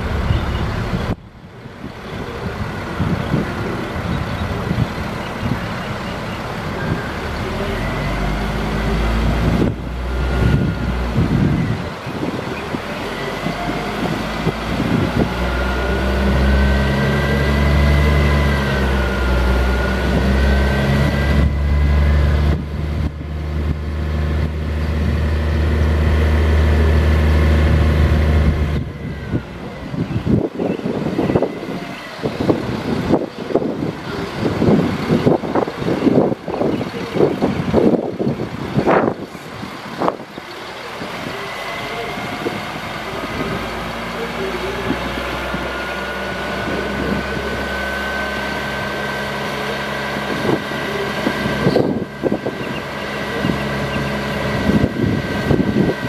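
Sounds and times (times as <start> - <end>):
diesel engine running: 0.0 - 56.0
hydraulic whine rising and falling: 0.0 - 56.0.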